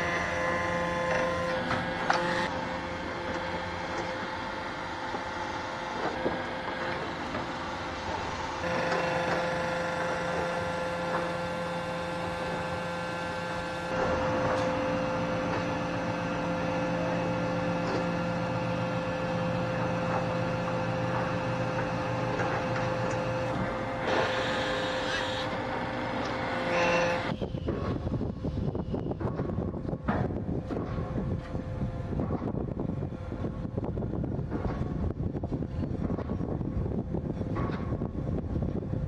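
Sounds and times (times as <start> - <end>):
pile frame machinery hum and whine: 0.0 - 39.0.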